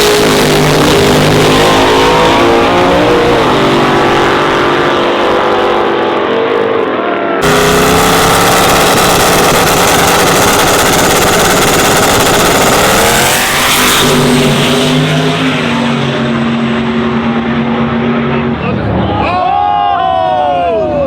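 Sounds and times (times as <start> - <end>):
racing truck engine at full throttle: 0.0 - 19.3.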